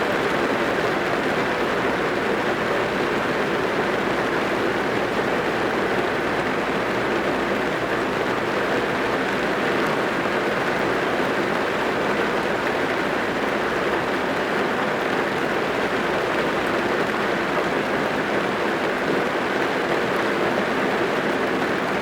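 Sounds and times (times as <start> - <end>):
rain falling on a car: 0.0 - 22.0.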